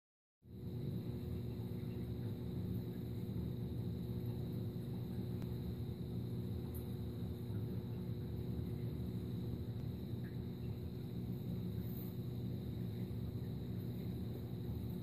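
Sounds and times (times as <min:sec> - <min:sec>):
aquarium pumps humming: 0:00.5 - 0:15.0.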